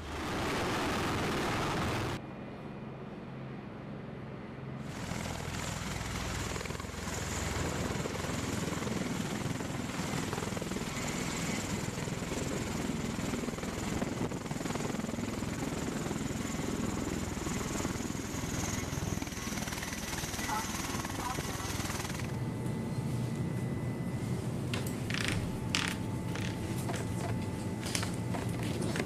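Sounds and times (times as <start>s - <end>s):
high turbine whine: 0.0s - 29.0s.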